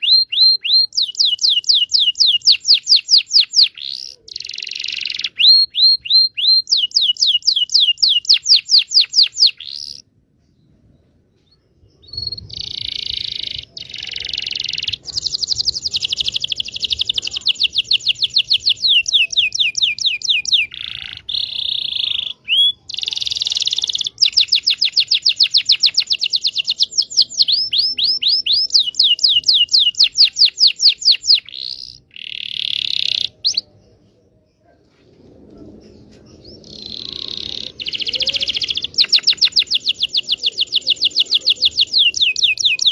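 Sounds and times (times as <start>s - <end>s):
canary singing rolling trills: 0.0s - 10.1s, 11.8s - 42.9s.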